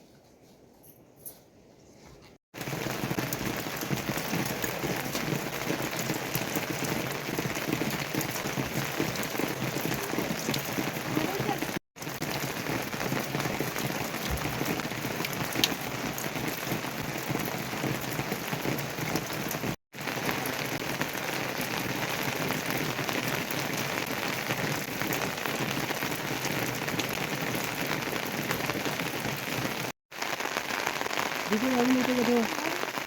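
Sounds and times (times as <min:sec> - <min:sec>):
heavy rain falling: 0:02.6 - 0:33.0.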